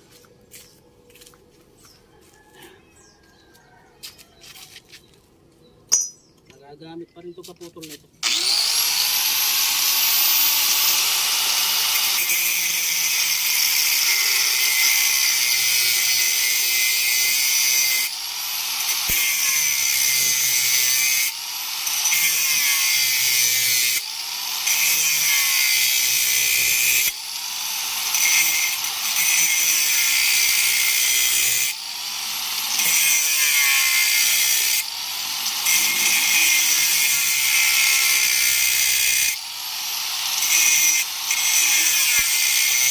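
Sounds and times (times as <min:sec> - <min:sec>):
angle grinder cutting metal: 0:08.2 - 0:42.9.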